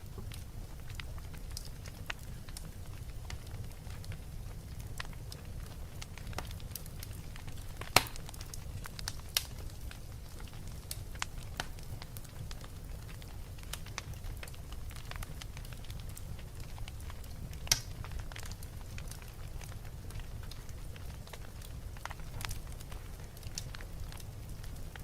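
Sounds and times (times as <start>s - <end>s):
fire crackling and popping: 0.0s - 25.0s
rumble of flames: 0.0s - 25.0s.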